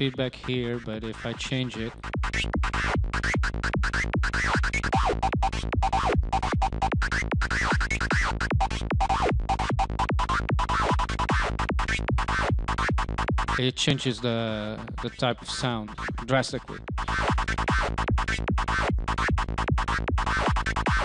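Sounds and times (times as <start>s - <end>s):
synthesizer psytrance lead: 0.0s - 21.0s.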